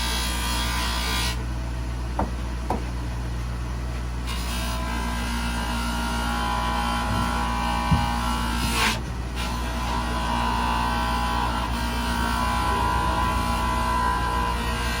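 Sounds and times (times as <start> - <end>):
polishing wheel humming and whining: 0.0 - 15.0.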